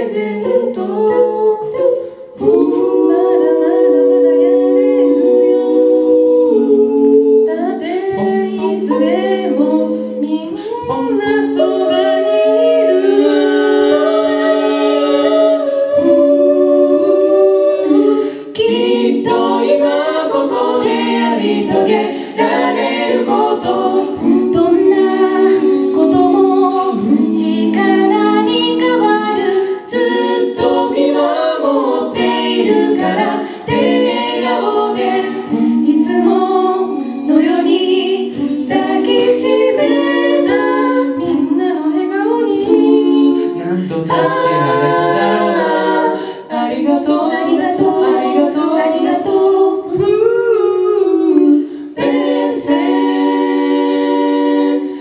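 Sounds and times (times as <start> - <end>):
a cappella group singing in harmony: 0.0 - 55.0.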